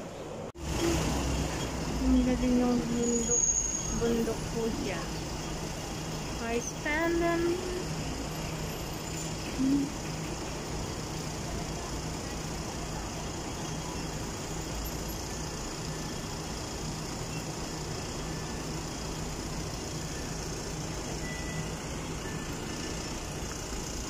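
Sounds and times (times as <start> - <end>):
street traffic noise: 0.0 - 24.0
vehicle engine idling: 0.5 - 24.0.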